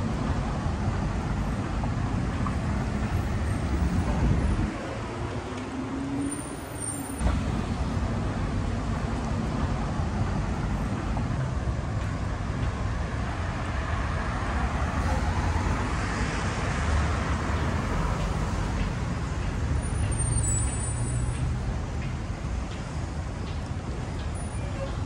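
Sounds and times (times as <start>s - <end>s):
cars and buses passing: 0.0s - 25.0s.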